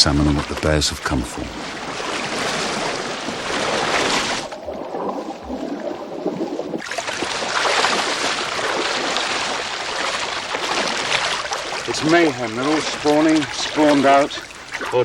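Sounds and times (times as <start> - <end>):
rushing river water: 0.0 - 15.0.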